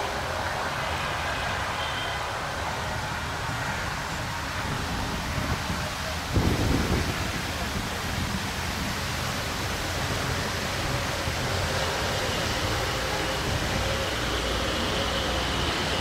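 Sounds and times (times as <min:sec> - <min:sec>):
train coaches rumbling: 0:00.0 - 0:16.0.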